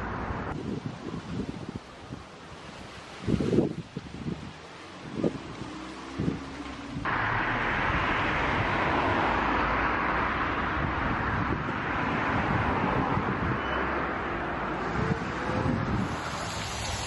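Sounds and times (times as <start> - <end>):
stormy surf rushing: 0.0 - 17.0
wind buffeting microphone: 0.0 - 17.0.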